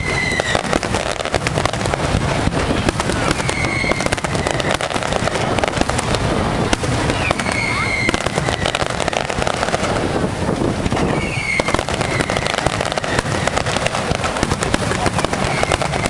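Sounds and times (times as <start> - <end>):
high firework whistle: 0.0 - 9.9, 10.8 - 16.0
fireworks bursting: 0.0 - 16.0.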